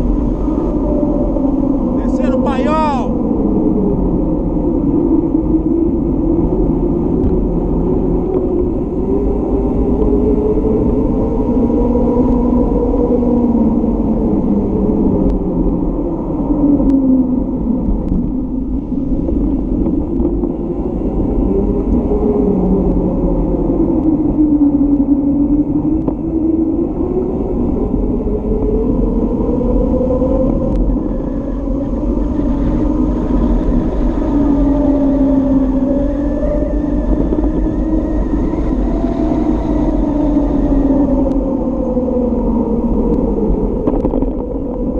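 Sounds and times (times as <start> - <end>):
bicycle tyres humming on asphalt: 0.0 - 44.9
wind on microphone: 0.0 - 44.9.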